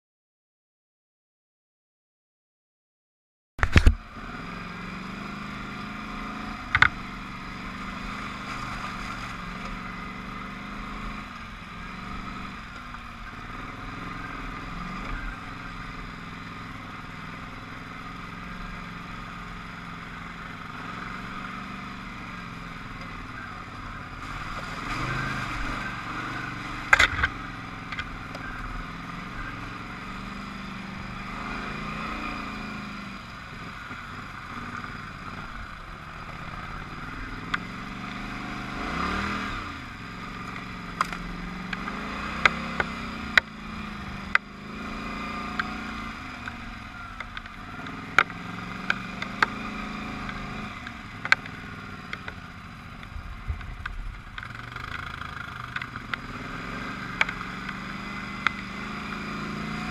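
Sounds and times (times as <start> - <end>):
off-road vehicle engine running: 3.6 - 59.9.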